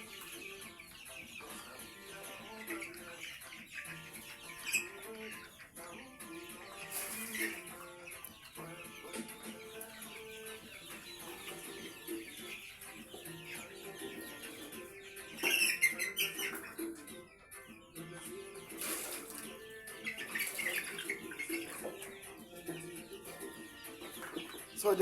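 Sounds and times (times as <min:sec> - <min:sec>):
background music: 0:00.0 - 0:25.0
chickens clucking: 0:00.0 - 0:25.0.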